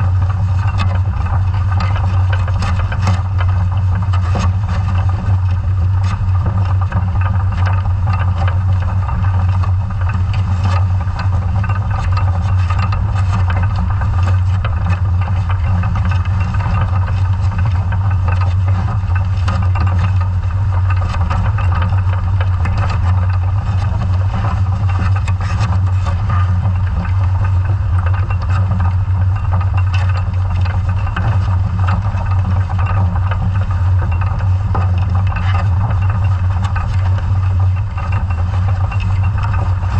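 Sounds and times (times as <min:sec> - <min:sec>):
underwater machinery hum: 0:00.0 - 0:39.9.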